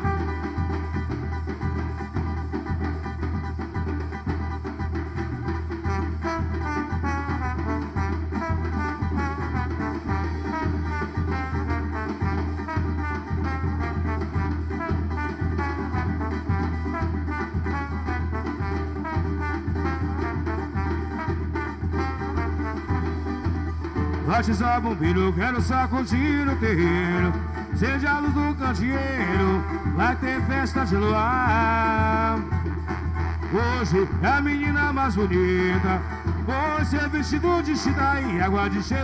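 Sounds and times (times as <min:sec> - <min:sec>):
bass line: 0:00.0 - 0:39.0
drum beat: 0:00.0 - 0:39.0
horns playing melody: 0:00.0 - 0:39.0.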